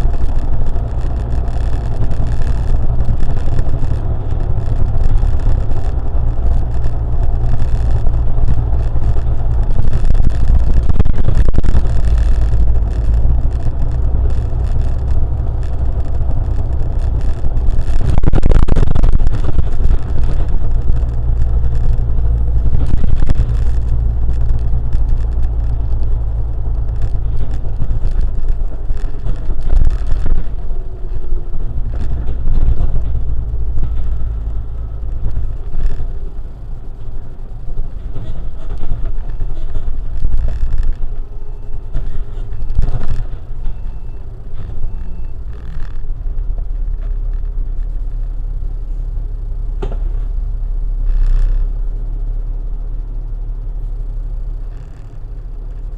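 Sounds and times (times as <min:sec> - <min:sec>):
road and engine rumble: 0:00.0 - 0:55.9.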